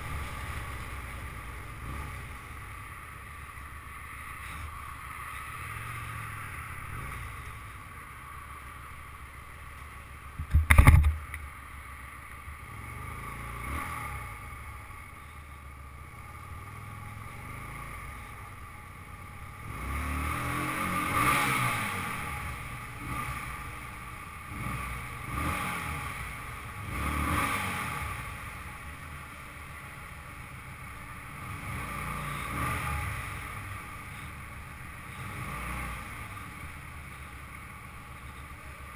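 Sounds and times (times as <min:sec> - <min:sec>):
motorcycle engine revving: 0:00.0 - 0:08.1, 0:12.6 - 0:15.2, 0:16.1 - 0:38.9.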